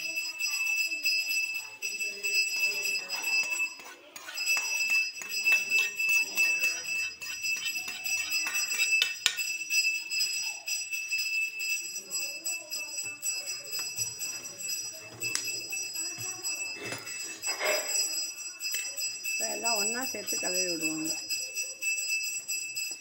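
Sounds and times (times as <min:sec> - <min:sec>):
steady high-pitched ringing tone: 0:00.0 - 0:23.0.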